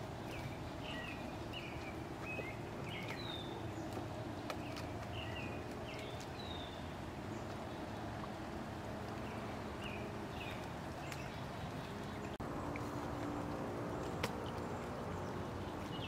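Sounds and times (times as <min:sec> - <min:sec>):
small birds chirping: 0:00.0 - 0:08.4, 0:09.1 - 0:16.0.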